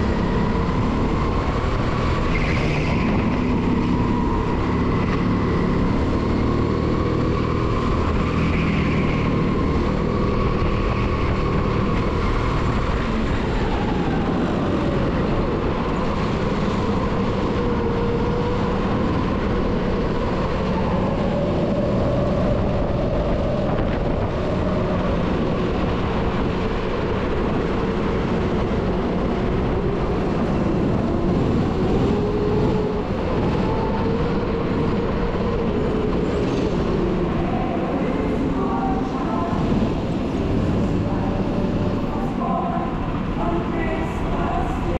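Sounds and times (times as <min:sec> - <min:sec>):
kart engine revving: 0:00.0 - 0:44.9.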